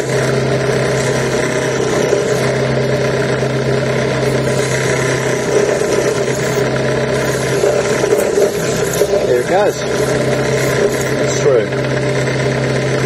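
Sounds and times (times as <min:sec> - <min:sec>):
drill press grinding into stone: 0:00.0 - 0:13.0.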